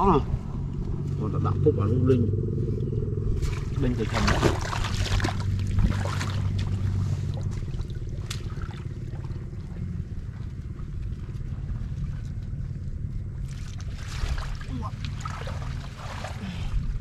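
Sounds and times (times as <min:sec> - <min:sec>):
low rumble: 0:00.0 - 0:17.0
shallow water sloshing and splashing: 0:03.3 - 0:17.0.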